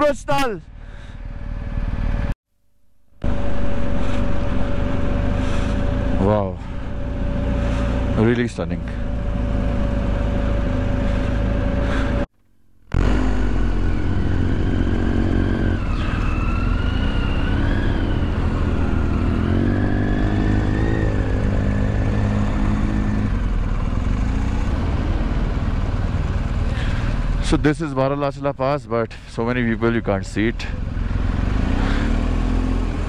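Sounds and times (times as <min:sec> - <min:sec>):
motorcycle engine running: 0:00.0 - 0:02.4, 0:03.2 - 0:33.0.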